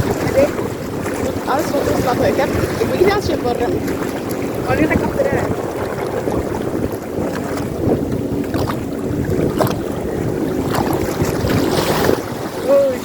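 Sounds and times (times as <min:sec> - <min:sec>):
jet ski engine running: 0:00.0 - 0:13.0
wind buffeting microphone: 0:00.0 - 0:13.0.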